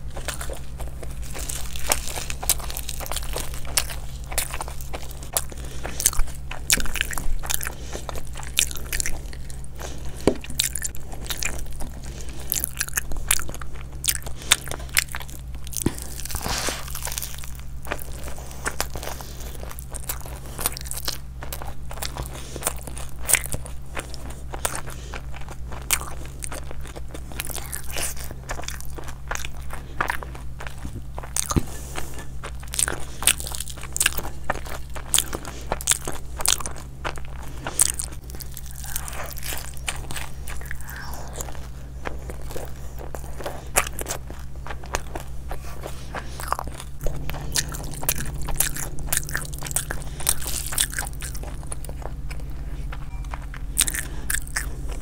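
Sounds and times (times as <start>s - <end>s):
chewing crunchy food: 0.0s - 55.0s
low hum: 0.0s - 55.0s.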